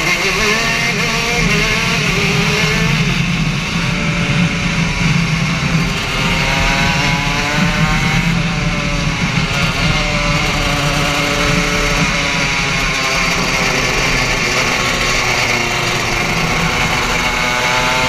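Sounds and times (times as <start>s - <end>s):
kart engine revving high: 0.0s - 18.0s.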